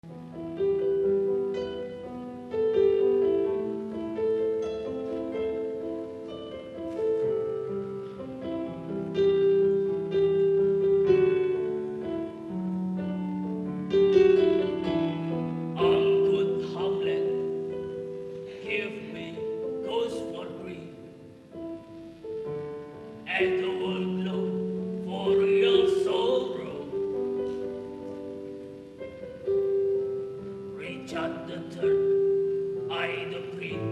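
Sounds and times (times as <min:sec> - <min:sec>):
slow piano chords: 0:00.0 - 0:33.9.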